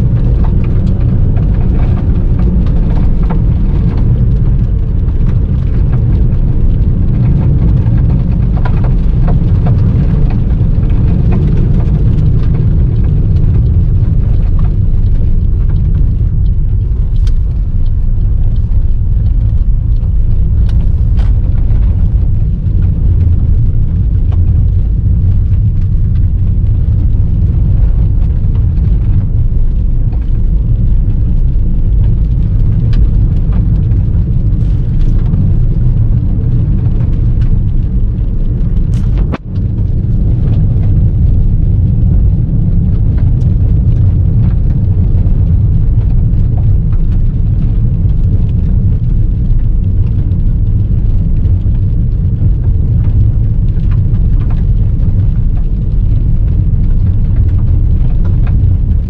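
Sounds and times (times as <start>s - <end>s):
car tyres and engine rumbling: 0.0s - 59.0s
gravel hitting the car: 0.0s - 59.0s.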